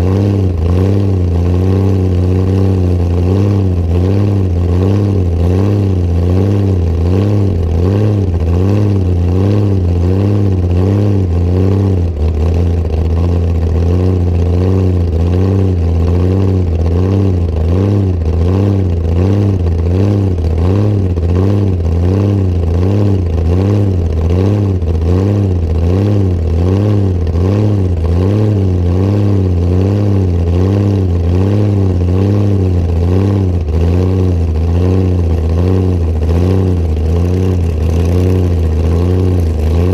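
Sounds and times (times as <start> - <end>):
car engine loping: 0.0 - 39.9.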